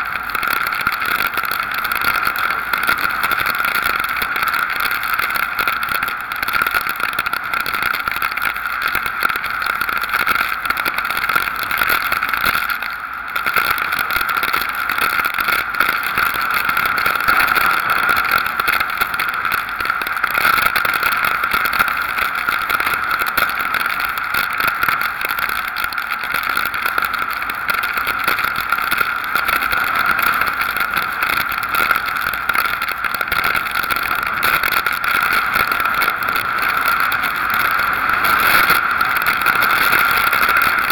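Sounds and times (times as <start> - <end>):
hurricane wind and driving rain: 0.0 - 40.9.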